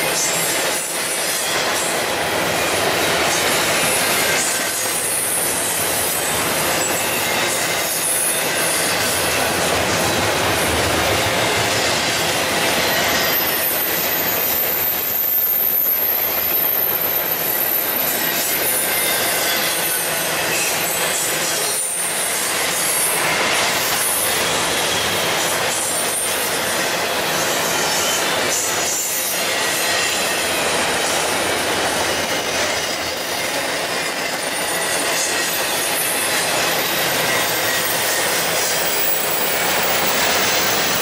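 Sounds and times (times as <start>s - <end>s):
steel train wheels on rail: 0.0s - 41.0s.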